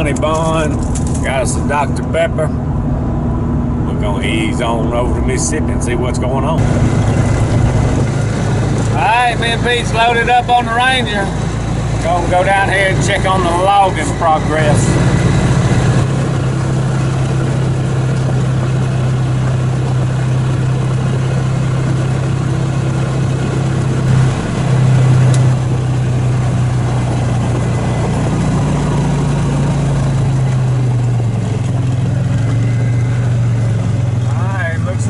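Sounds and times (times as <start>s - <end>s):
utility vehicle engine running: 0.0s - 35.0s.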